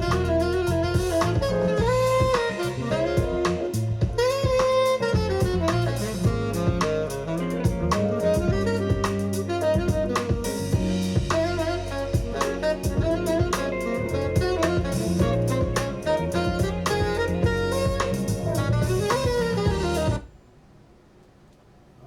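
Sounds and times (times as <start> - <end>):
drum kit with cymbal hits: 0.0 - 20.3
jazz saxophone lead: 0.0 - 20.3.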